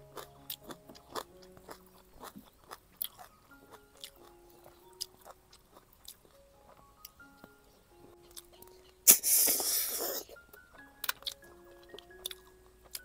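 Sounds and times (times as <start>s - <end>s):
person chewing with mouth clicks: 0.0s - 13.0s
soft background music: 0.0s - 13.0s.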